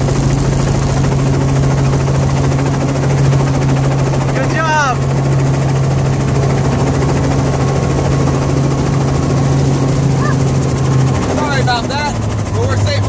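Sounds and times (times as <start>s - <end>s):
helicopter engine and rotor hum: 0.0s - 13.0s.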